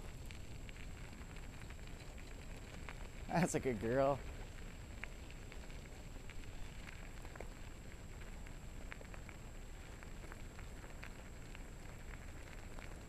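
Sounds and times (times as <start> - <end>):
wheels rolling over gravel: 0.0 - 13.0
wind rumble on microphone: 0.0 - 13.0.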